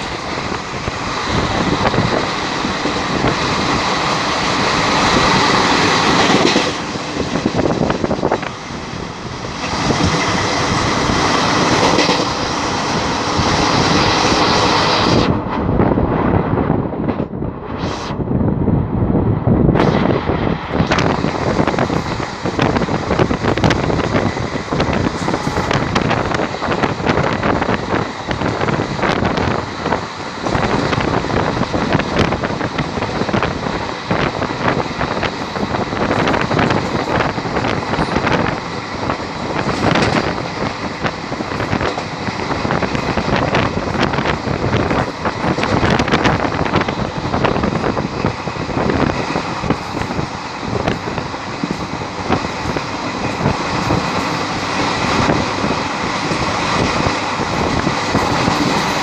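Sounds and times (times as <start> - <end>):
wheels clicking on rails: 0.0 - 15.3, 20.8 - 59.0
train rush of air and track: 0.0 - 59.0.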